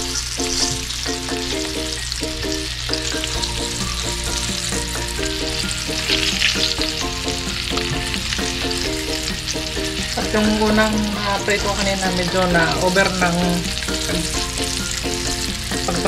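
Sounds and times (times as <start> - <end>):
chicken sizzling in hot oil: 0.0 - 16.0
light repeating tune: 0.0 - 16.0.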